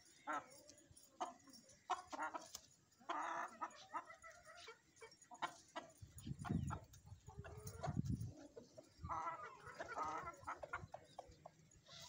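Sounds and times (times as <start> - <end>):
chicken clucking: 0.0 - 12.0.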